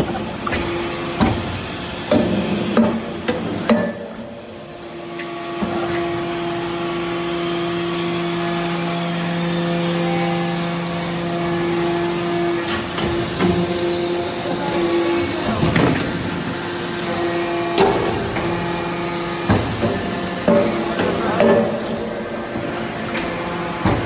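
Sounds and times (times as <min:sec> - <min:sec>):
hydraulic hum: 0:00.0 - 0:24.0.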